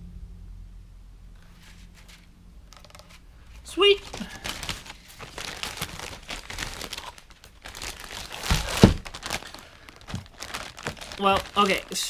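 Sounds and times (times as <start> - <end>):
plastic packaging crinkling: 1.6 - 12.0.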